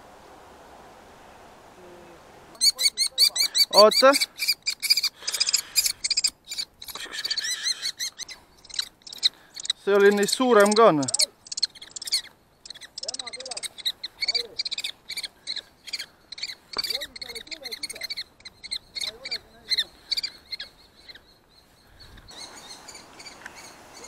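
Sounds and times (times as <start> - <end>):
kestrels calling: 2.6 - 24.0.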